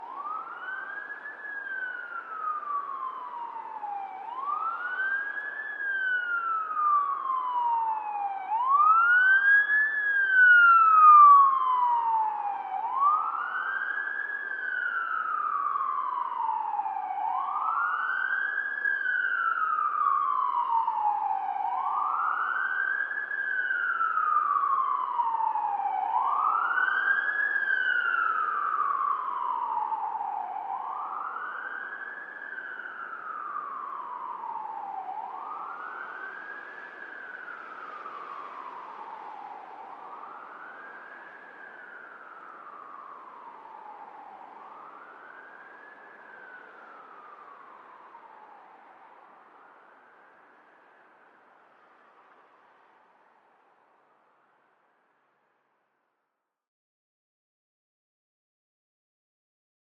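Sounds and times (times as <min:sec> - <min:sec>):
distant police siren wailing: 0:00.0 - 0:54.7.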